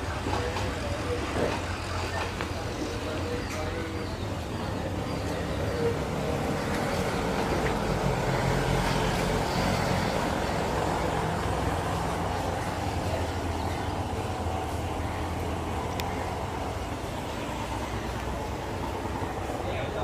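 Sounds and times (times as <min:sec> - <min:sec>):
diesel locomotive engine hum: 0:00.0 - 0:20.0.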